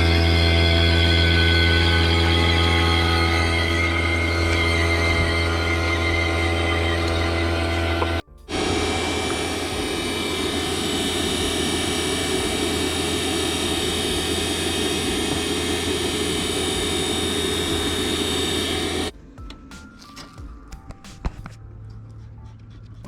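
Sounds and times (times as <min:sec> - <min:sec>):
machine running with whooshing: 0:00.0 - 0:19.1
steady machine tones: 0:00.0 - 0:19.5.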